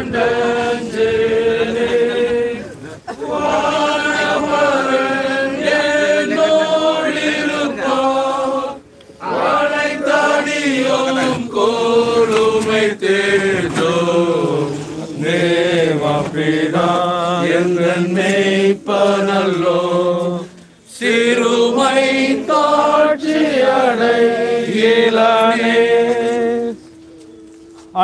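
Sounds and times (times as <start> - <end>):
voices singing a slow hymn: 0.0 - 28.0.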